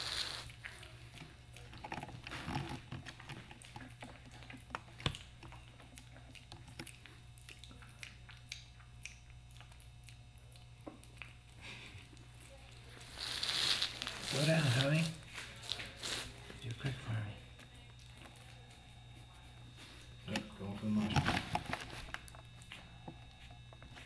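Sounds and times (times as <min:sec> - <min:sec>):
piglet crunching cereal: 0:00.0 - 0:24.0.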